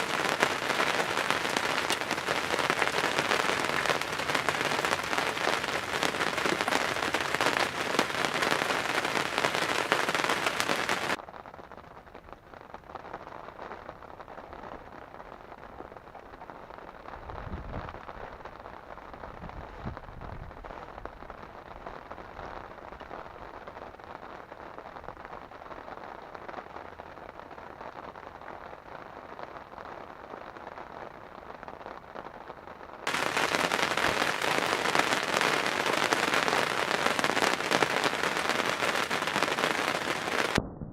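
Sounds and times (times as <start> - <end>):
heavy rain on a blind: 0.0 - 40.6.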